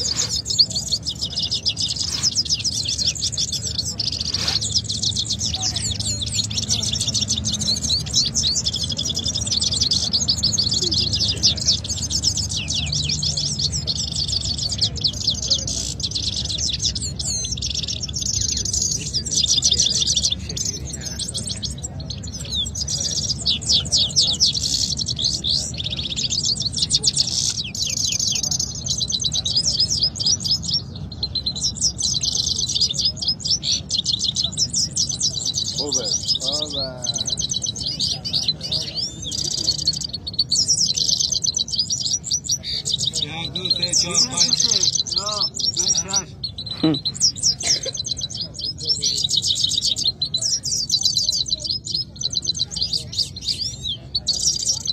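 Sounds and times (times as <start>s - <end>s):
canaries singing: 0.0s - 54.9s.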